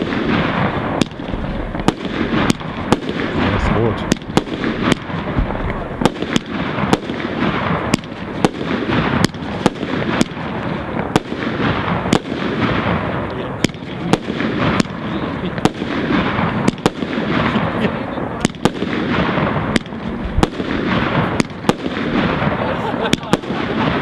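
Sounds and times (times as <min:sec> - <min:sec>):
fireworks bangs: 0:00.0 - 0:24.0
fireworks crackling: 0:00.0 - 0:24.0.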